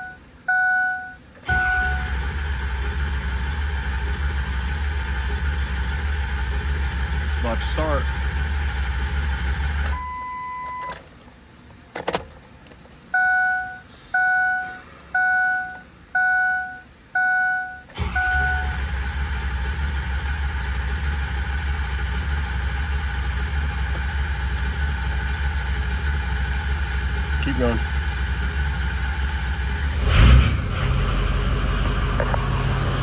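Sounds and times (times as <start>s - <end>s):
diesel engine running: 0.0s - 10.2s, 13.2s - 33.0s.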